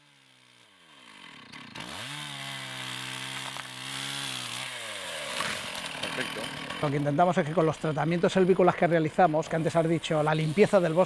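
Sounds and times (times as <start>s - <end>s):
chainsaw cutting a tree: 0.0s - 11.0s.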